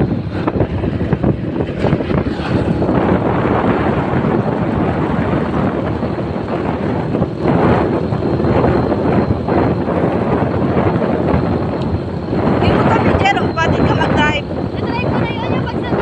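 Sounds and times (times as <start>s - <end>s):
motorcycle running: 0.0s - 16.0s
wind buffeting microphone: 0.0s - 16.0s.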